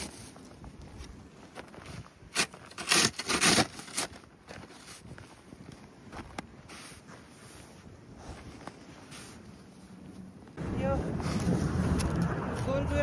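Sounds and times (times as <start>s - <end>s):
snow crunching and scraping: 0.0s - 13.0s.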